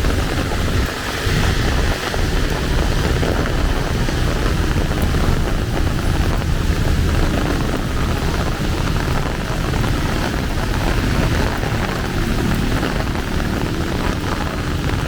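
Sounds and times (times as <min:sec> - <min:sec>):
heavy rain falling: 0:00.0 - 0:15.0
low rumble: 0:00.0 - 0:15.0.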